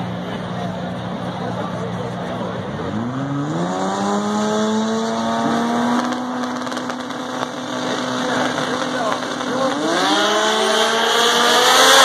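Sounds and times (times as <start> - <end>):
race car engines at full throttle: 0.0 - 12.0.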